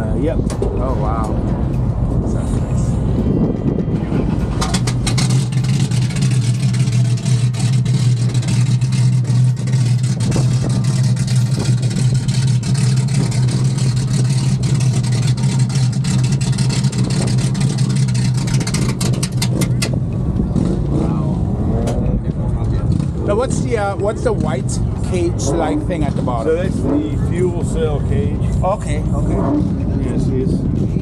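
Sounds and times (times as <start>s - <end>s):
race car engine idling: 0.0s - 31.0s.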